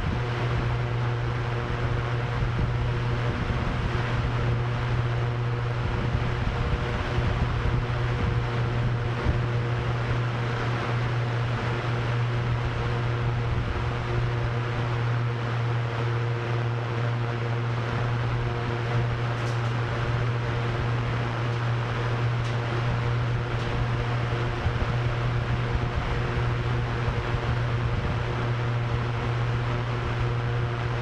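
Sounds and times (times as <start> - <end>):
drone propellers humming: 0.0 - 31.0
wind: 0.0 - 31.0.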